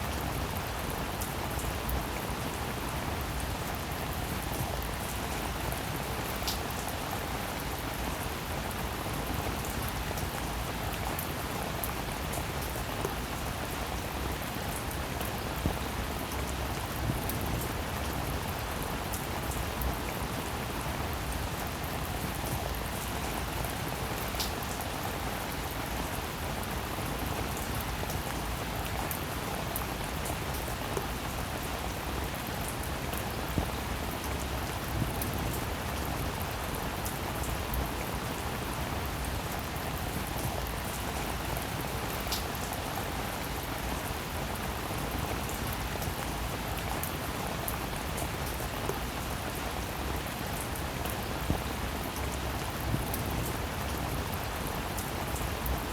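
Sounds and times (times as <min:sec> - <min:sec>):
rain hissing on a surface: 0:00.0 - 0:55.9.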